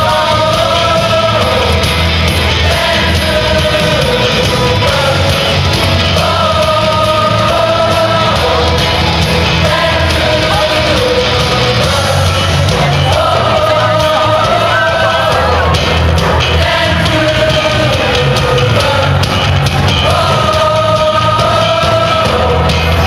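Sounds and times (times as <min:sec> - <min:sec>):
heavy bass: 0:00.0 - 0:23.0
person singing long notes: 0:00.0 - 0:23.0.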